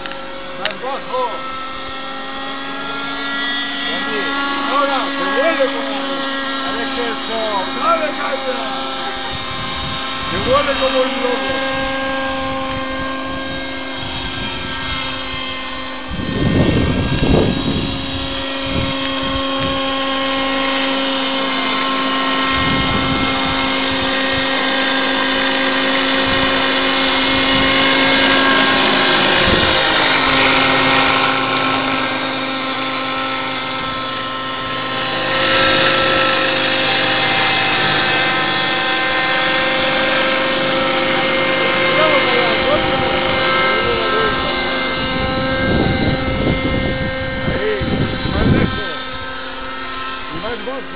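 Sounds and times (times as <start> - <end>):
toy helicopter rotor whine: 0.0 - 50.9.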